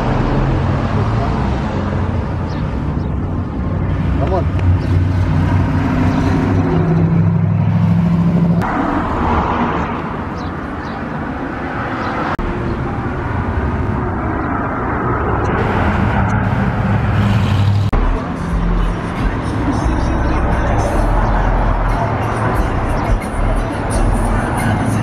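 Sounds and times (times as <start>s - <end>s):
car engines humming in traffic: 0.0s - 25.0s.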